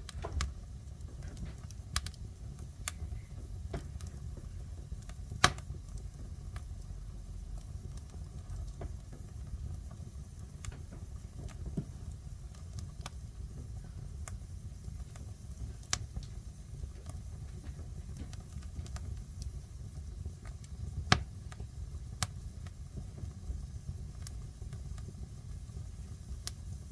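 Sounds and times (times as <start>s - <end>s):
fire crackling and popping: 0.0s - 26.9s
wood fire rumbling: 0.0s - 26.9s.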